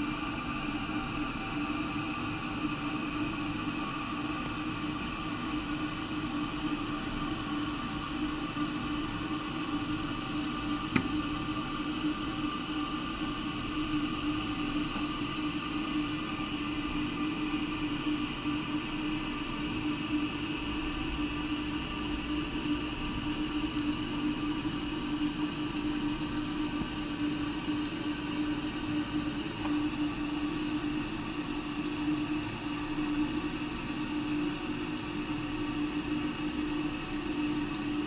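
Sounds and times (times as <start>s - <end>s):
toilet tank refilling: 0.0s - 38.0s.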